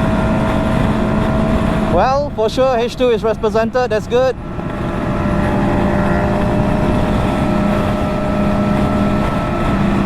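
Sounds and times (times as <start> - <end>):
motorcycle engine cruising: 0.0 - 10.0
road and wind rush: 0.0 - 10.0.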